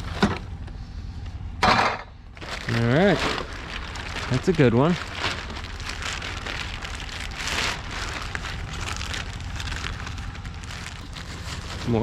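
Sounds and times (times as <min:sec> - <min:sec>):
cardboard rustling and crackling: 0:02.3 - 0:12.0.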